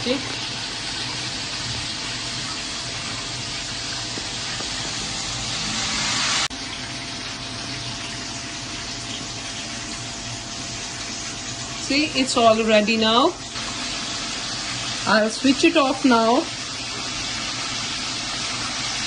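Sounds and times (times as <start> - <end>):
coffee maker brewing hiss: 0.0 - 19.0.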